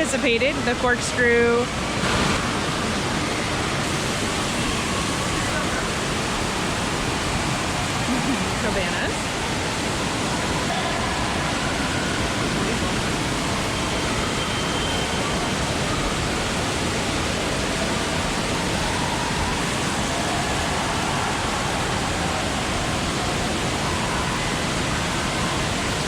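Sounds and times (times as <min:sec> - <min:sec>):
running and splashing water: 0:00.0 - 0:26.0.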